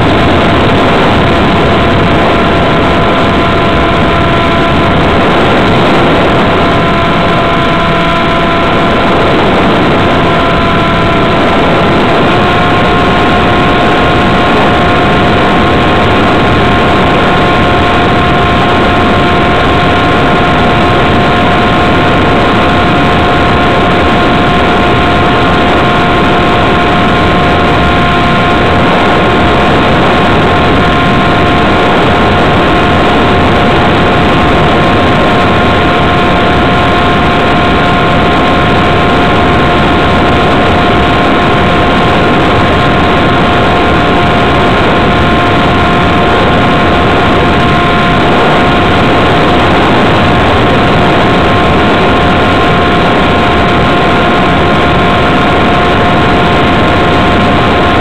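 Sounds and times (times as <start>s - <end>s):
model plane motor whine: 0.0s - 58.0s
wind rush: 0.0s - 58.0s.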